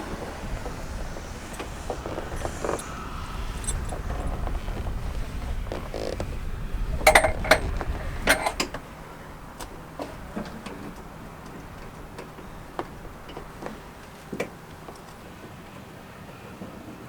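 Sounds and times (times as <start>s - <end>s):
sharp clicks and knocks: 0.0s - 15.2s.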